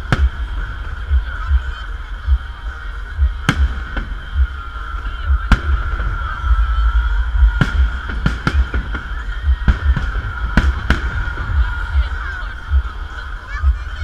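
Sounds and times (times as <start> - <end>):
deep rumble: 0.0 - 14.0
firework bangs: 0.0 - 14.0.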